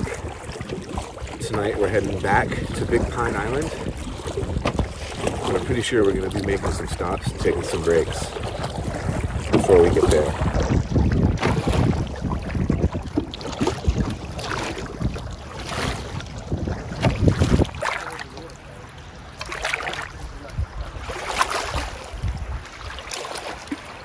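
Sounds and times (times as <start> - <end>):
paddle strokes swishing water: 0.0 - 24.0
wind buffeting microphone: 0.0 - 24.0.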